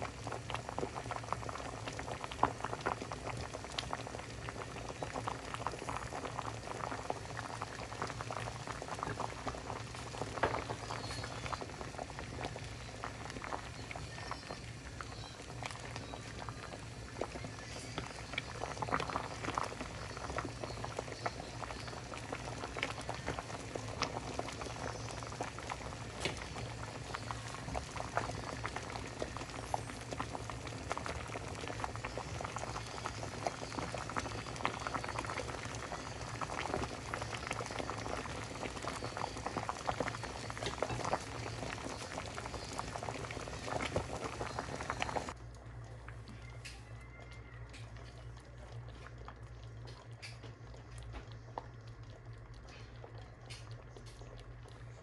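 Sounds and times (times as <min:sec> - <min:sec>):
soup boiling and bubbling: 0:00.0 - 0:55.0.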